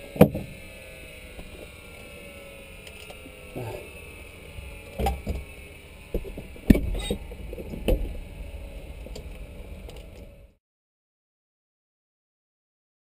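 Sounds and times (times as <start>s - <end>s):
faint steady hum: 0.0s - 10.6s.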